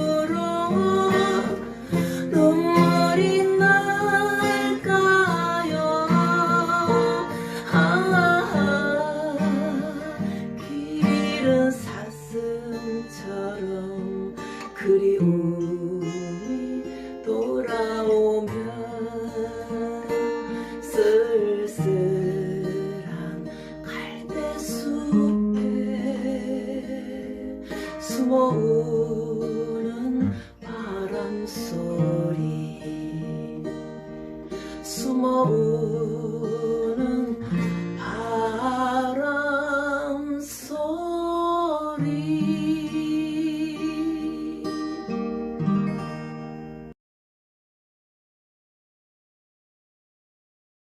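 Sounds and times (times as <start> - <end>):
strummed acoustic guitar: 0.0 - 47.0.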